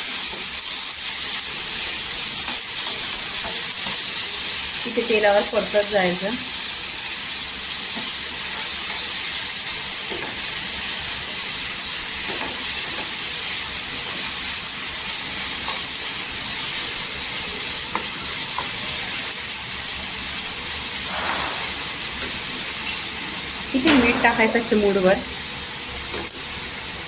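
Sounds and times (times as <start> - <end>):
apple sizzling in hot oil: 0.0 - 27.0.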